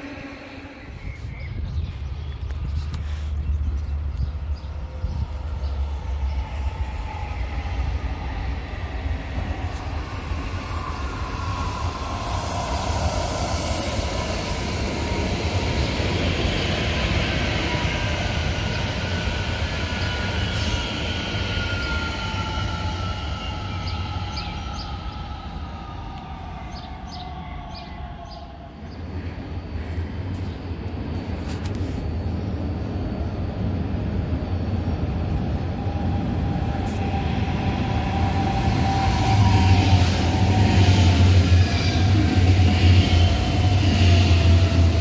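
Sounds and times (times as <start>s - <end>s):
electric train passing: 0.0s - 1.4s, 3.9s - 45.0s.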